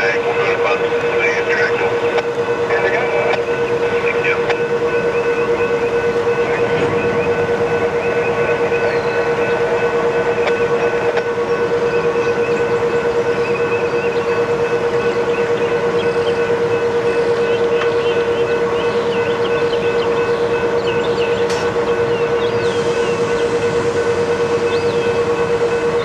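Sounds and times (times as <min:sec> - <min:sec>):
crossing warning bell ringing: 0:00.0 - 0:26.0
freight train rolling: 0:00.0 - 0:26.0.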